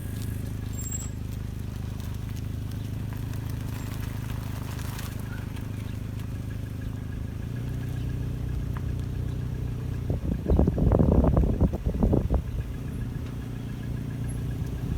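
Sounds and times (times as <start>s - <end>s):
car engine running: 0.0s - 14.9s
faint engine ticks: 0.0s - 14.9s.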